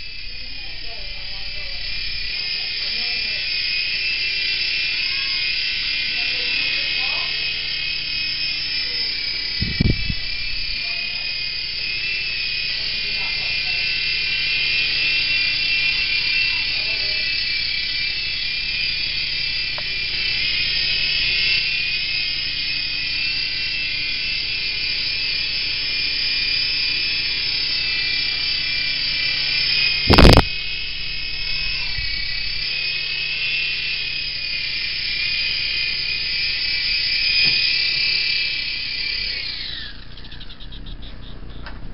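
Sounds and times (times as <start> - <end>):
toy helicopter motor whining: 0.0 - 41.9.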